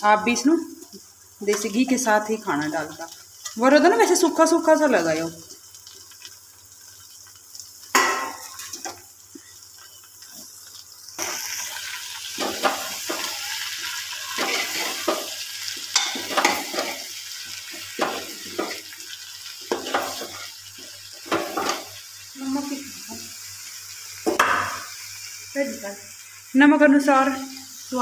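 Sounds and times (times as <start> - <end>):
jackfruit sizzling: 0.0 - 28.0.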